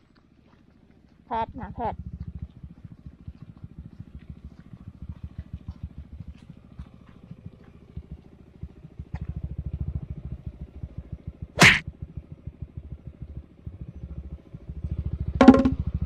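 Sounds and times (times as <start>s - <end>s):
scooter engine puttering: 0.3s - 16.0s.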